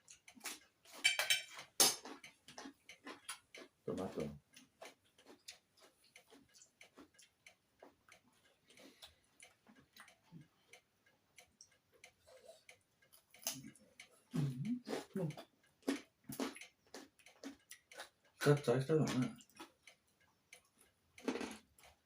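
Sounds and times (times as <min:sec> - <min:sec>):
person chewing: 0:00.0 - 0:18.4, 0:19.1 - 0:22.0.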